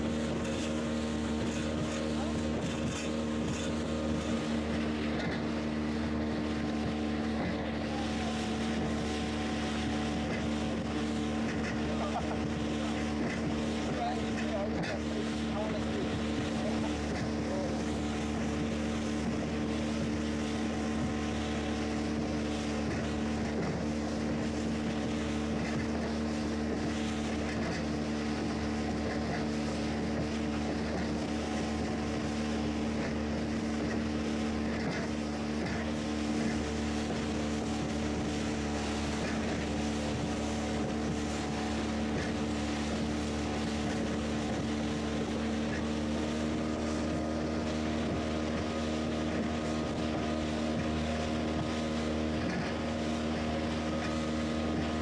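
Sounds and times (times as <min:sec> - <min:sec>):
motorboat engine droning: 0:00.0 - 0:55.0
water rushing along hull: 0:00.0 - 0:55.0.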